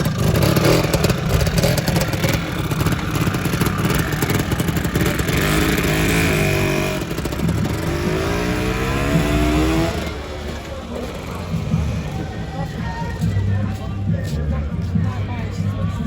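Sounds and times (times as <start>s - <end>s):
scooter engine revving: 0.0s - 16.0s
scooter engines rumbling: 0.0s - 16.0s.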